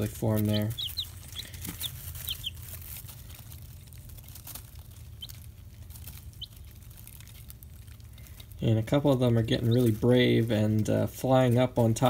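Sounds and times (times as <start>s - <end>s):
chicks pecking and scratching: 0.0s - 12.0s
chicks peeping: 0.0s - 12.0s
low steady hum: 0.0s - 12.0s.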